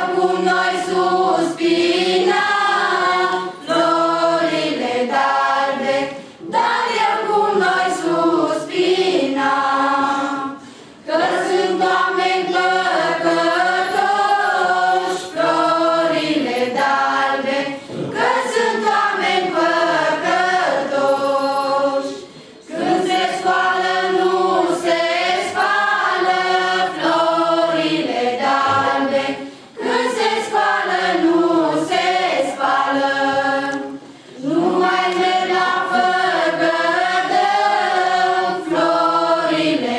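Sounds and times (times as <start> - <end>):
women singing carol unaccompanied: 0.0 - 39.9.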